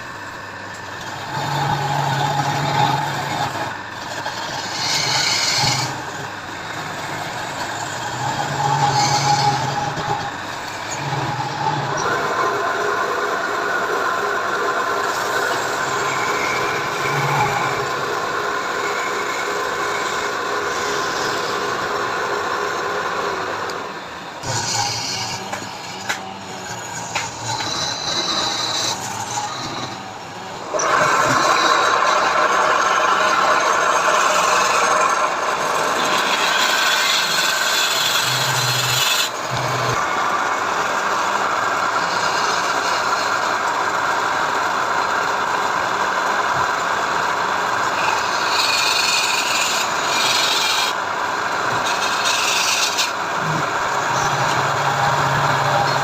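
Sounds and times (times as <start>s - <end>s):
abrasive tool rasping wood: 0.8s - 23.8s, 24.4s - 43.7s, 47.8s - 56.0s.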